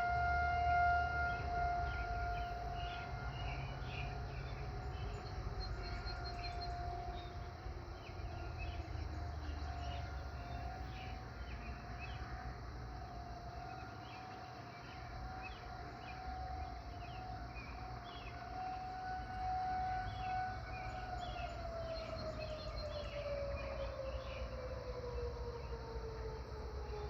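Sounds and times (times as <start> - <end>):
distant warning siren: 0.0 - 27.0
birds chirping: 0.9 - 27.0.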